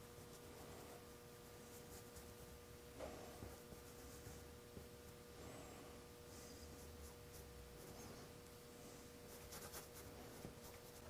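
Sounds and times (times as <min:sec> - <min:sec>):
paintbrush strokes on canvas: 0:00.0 - 0:05.2, 0:06.3 - 0:11.0
low room hum: 0:00.0 - 0:11.0.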